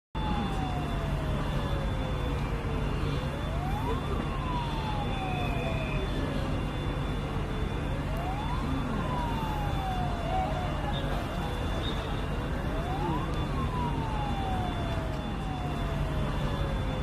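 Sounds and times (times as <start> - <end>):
emergency siren wailing: 0.2 - 17.0.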